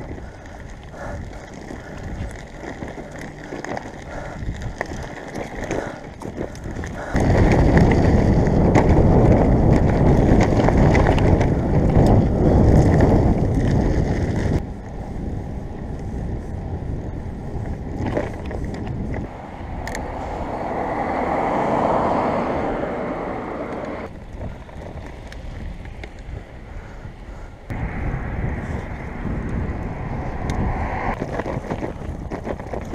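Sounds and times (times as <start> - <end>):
bicycle tyres rumbling: 0.0 - 32.9
wind buffeting microphone: 0.0 - 32.9.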